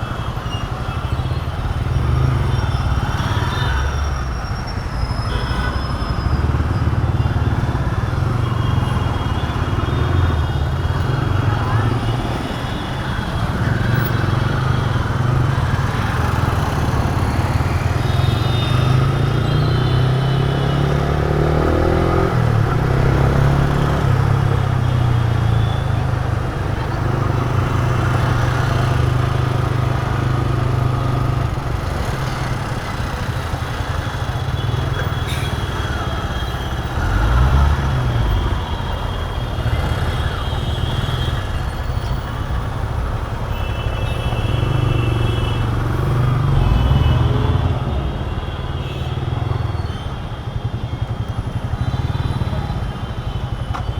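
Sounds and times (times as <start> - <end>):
road and wind noise: 0.0 - 53.9.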